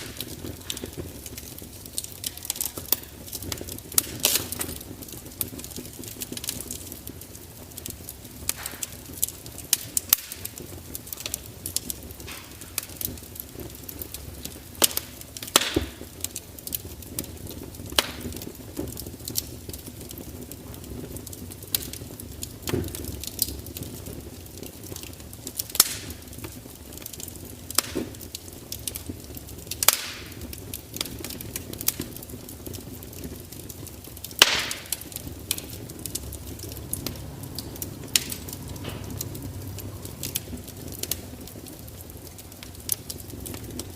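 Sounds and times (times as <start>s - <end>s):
fire crackling and popping: 0.0s - 43.9s.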